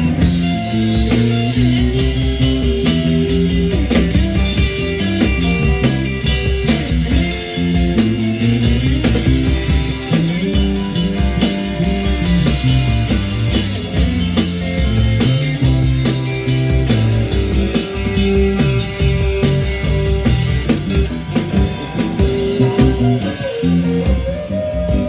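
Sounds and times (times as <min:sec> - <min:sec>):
band playing blues-rock: 0:00.0 - 0:25.0.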